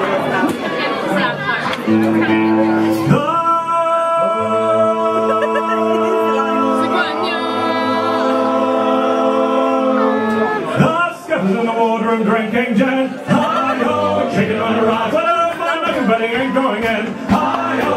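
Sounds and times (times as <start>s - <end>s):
group singing a cappella: 2.9s - 17.9s.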